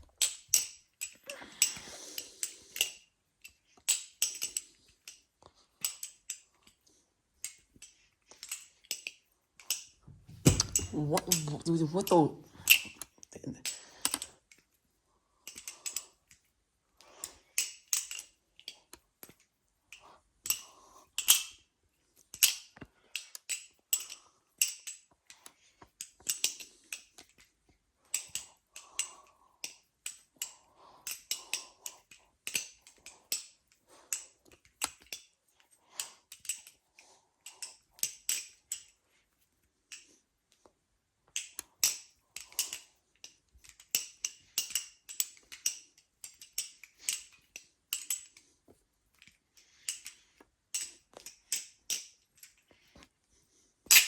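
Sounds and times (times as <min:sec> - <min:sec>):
balisong handles clicking: 0:00.0 - 0:06.8, 0:07.4 - 0:14.7, 0:15.4 - 0:21.6, 0:22.2 - 0:39.0, 0:41.3 - 0:53.1.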